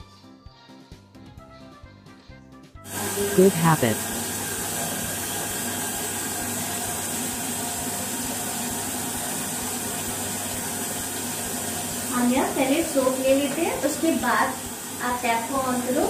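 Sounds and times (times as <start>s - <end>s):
tap water running into basin: 2.9s - 16.0s.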